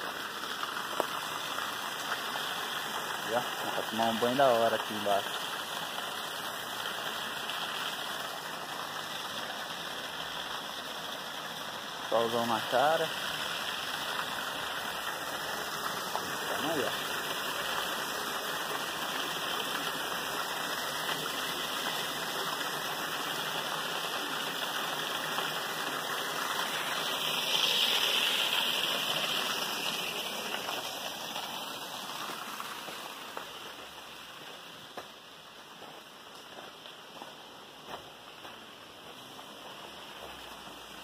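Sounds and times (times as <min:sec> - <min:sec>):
water rushing over rocks: 0:00.0 - 0:41.0.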